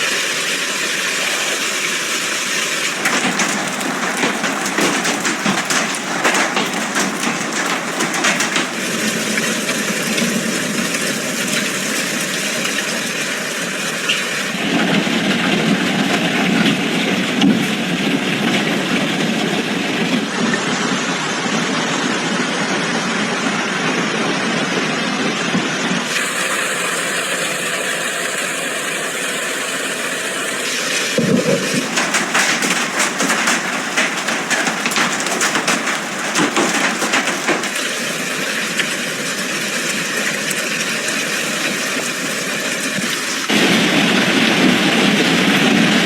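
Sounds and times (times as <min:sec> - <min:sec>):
heavy rain hissing: 0:00.0 - 0:24.6, 0:25.5 - 0:46.0.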